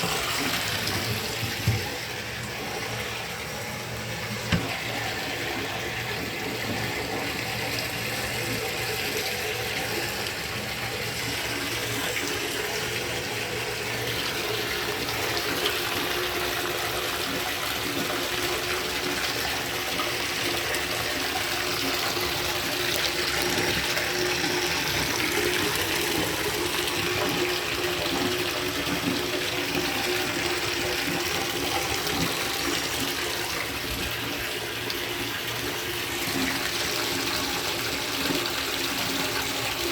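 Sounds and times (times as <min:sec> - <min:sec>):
shower water splashing in tub: 0:00.0 - 0:39.9.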